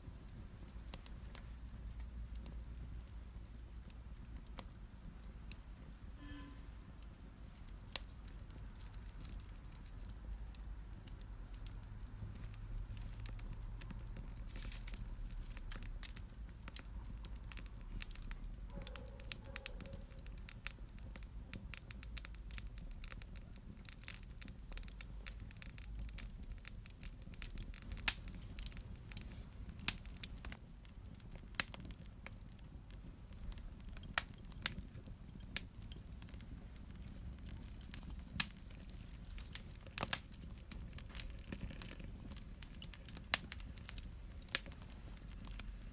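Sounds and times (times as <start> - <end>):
low fire rumble: 0.0 - 45.9
sharp fire pops: 0.0 - 45.9
wood fire crackling: 0.0 - 45.9.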